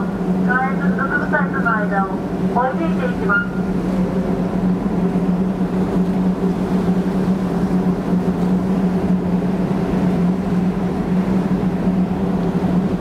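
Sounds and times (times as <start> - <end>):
hovercraft turbine drone: 0.0 - 13.0.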